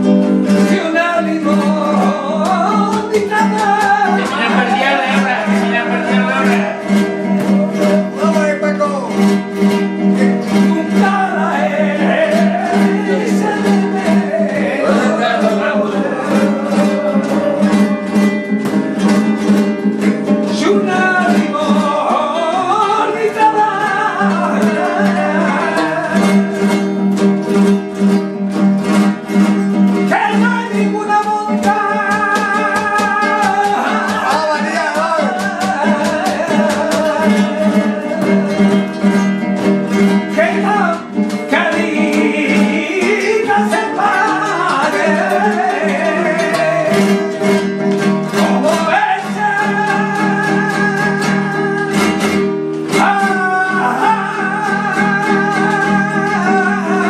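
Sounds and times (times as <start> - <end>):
flamenco guitar strumming: 0.0 - 57.0
man singing flamenco: 0.0 - 57.0.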